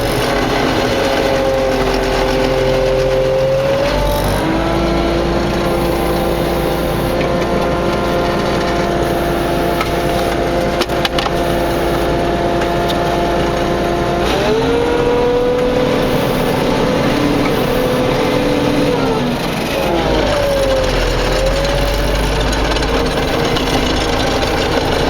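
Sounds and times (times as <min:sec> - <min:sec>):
combine harvester whining hum: 0:00.0 - 0:25.0.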